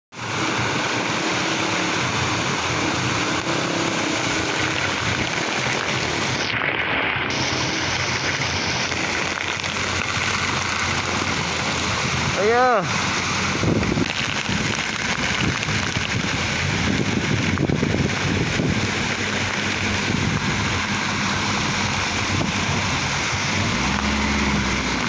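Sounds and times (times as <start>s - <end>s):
heavy rain on water: 0.1s - 25.0s
floodwater rushing: 0.2s - 25.0s.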